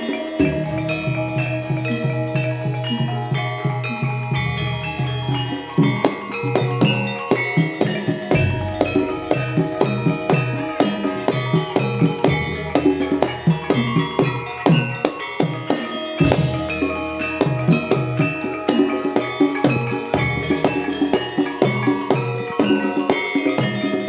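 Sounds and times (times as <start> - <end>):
bright cymbal crash: 0.0 - 24.0
gamelan hand drums and metal percussion: 0.0 - 24.0.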